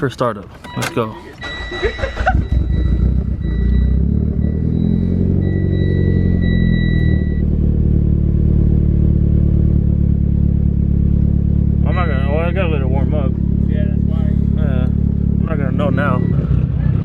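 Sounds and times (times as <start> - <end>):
car engine starting and idling: 0.0 - 17.0.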